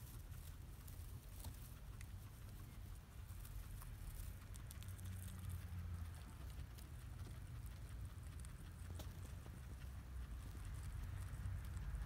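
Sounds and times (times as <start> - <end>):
guinea pig chewing hay: 0.0 - 12.0.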